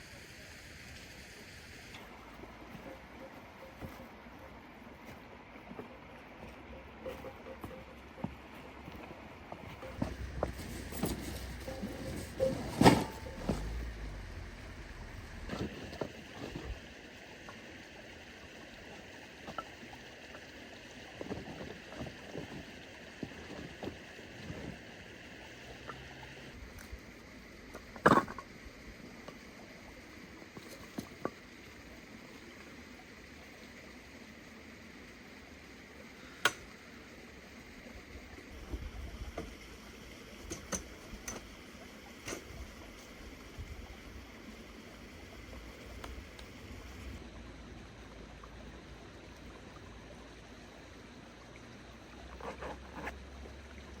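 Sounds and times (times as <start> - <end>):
flowing water rushing: 8.5 - 54.0.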